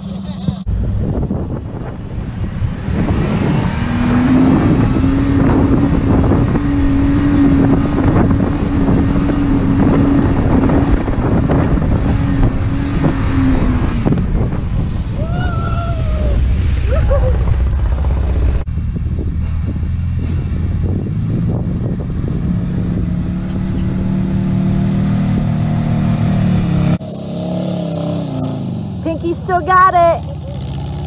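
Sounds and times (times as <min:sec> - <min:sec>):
truck engine running hard: 0:00.0 - 0:15.4, 0:16.0 - 0:31.0
rumble and clatter: 0:00.0 - 0:25.7.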